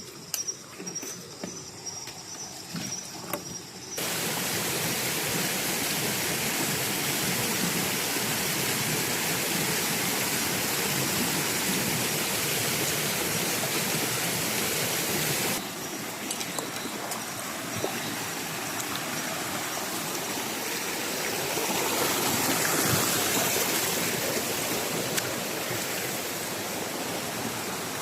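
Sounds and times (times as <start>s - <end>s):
rushing water: 4.0s - 28.0s.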